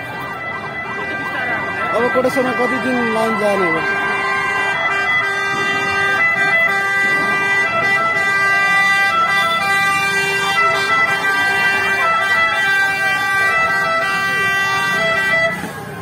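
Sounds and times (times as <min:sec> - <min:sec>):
fire engine siren: 0:00.0 - 0:16.0.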